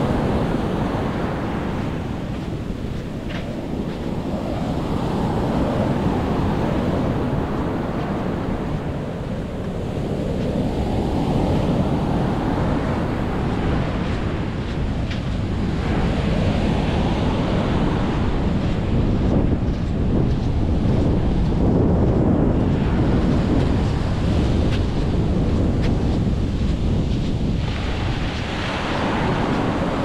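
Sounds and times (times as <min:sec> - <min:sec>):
sea waves breaking: 0:00.0 - 0:30.0
wind buffeting microphone: 0:00.0 - 0:30.0.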